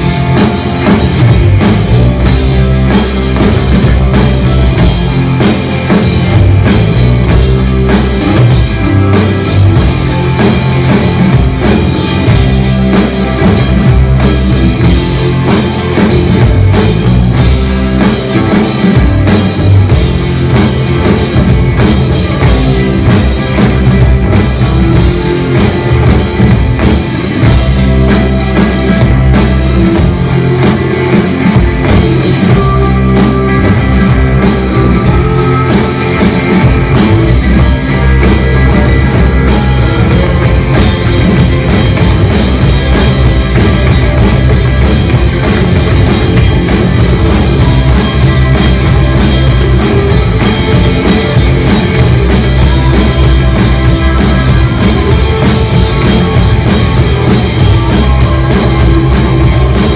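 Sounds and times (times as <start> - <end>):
drum kit beat: 0.0 - 59.9
electric guitar: 0.0 - 59.9.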